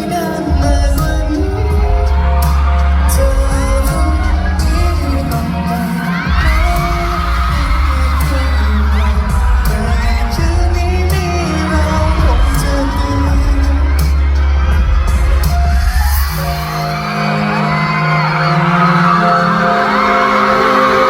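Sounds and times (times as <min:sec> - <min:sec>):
heavy bass beat: 0:00.0 - 0:18.8
man singing: 0:00.0 - 0:21.0.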